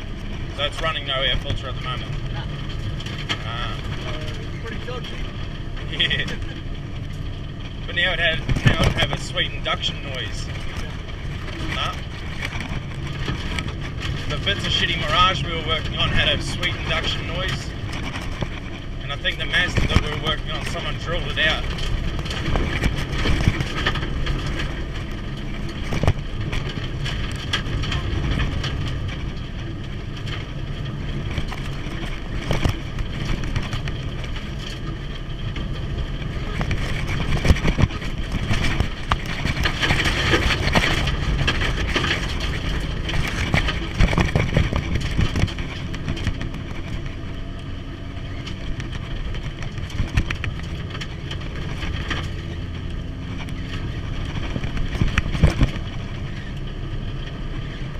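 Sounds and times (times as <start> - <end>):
car engine running in cabin: 0.0 - 57.9
knocks and rattles from rough road: 0.0 - 57.9.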